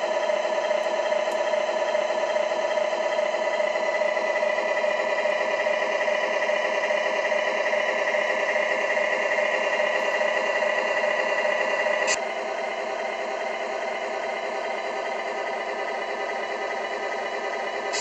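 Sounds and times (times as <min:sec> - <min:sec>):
diesel engine idle through loudspeaker: 0:00.0 - 0:18.0.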